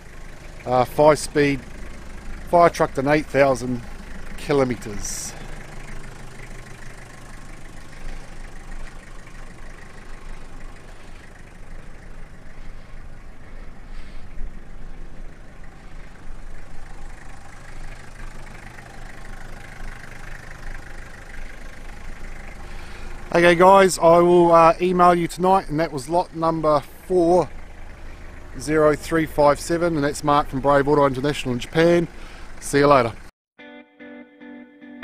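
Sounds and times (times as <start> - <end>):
diesel engine idling: 0.0 - 33.3.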